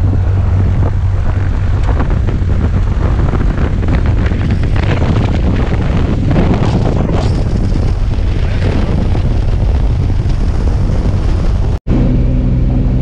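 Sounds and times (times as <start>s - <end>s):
small plane engine droning: 0.0s - 13.0s
wind buffeting microphone: 0.0s - 13.0s.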